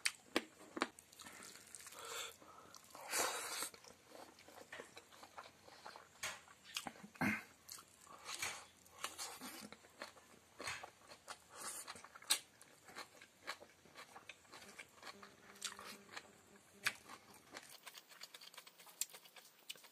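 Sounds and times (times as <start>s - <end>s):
chewing and lip-smacking: 2.7s - 19.9s.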